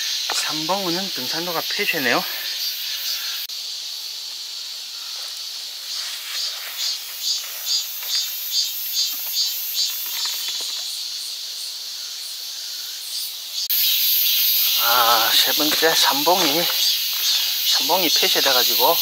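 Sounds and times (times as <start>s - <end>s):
insects buzzing: 0.0s - 19.0s
pulsing insect call: 0.0s - 19.0s.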